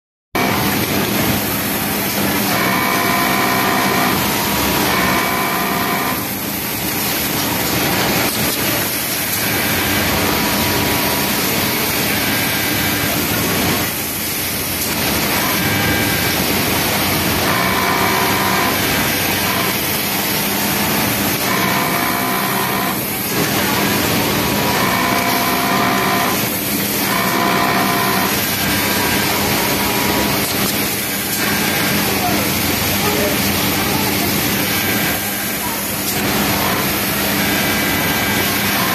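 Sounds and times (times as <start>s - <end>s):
sewing machine whine: 0.4s - 38.9s
steady machine noise: 0.4s - 38.9s.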